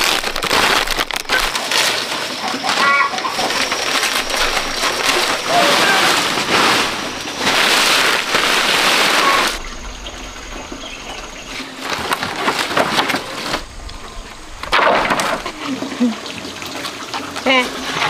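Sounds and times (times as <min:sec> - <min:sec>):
palm fronds rustling and crackling: 0:00.0 - 0:15.7
outdoor ambience: 0:00.0 - 0:18.0.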